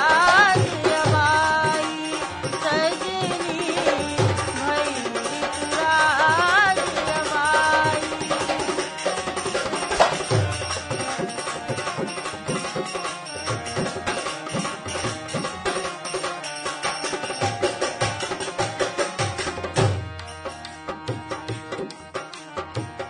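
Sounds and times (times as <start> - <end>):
drums and hand percussion: 0.0 - 23.0.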